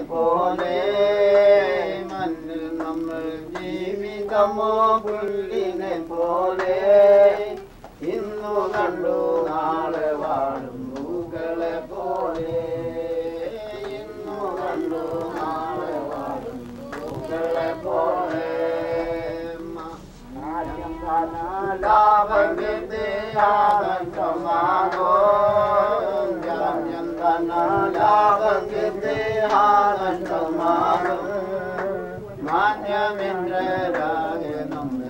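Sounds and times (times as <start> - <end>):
person singing devotional song: 0.0 - 35.0.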